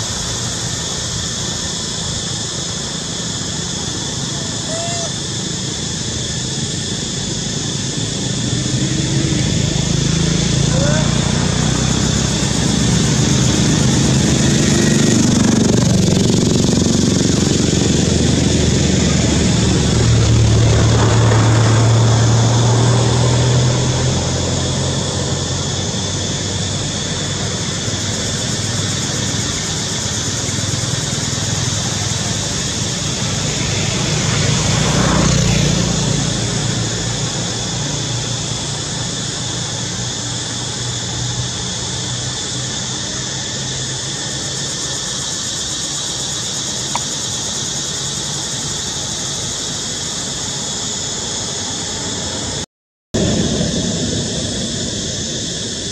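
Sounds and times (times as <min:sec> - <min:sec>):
high-pitched drone: 0:00.0 - 0:52.6
low engine hum: 0:05.4 - 0:52.6.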